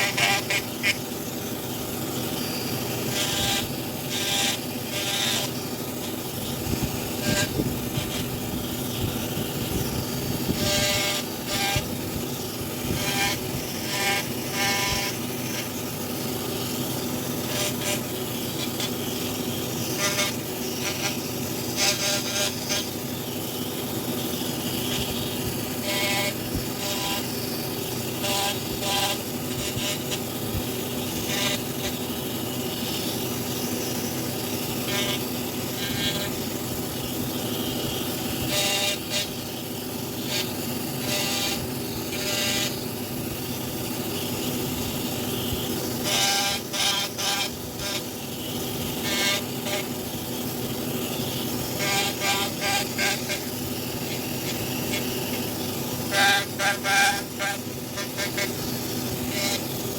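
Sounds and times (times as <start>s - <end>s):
power carving tool biting wood: 0.0s - 59.9s.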